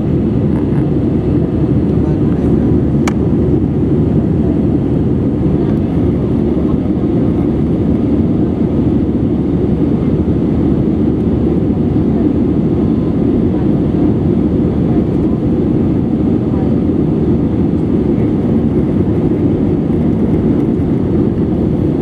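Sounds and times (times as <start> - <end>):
jet engine cabin rush: 0.0 - 22.0.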